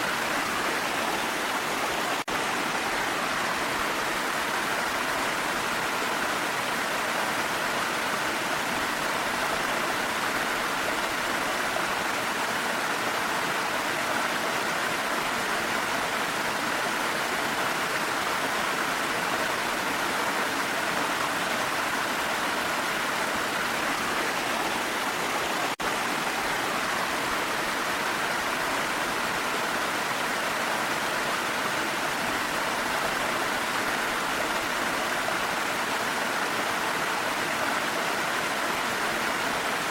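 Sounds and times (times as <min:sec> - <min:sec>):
waterfall and rain rushing: 0:00.0 - 0:39.9.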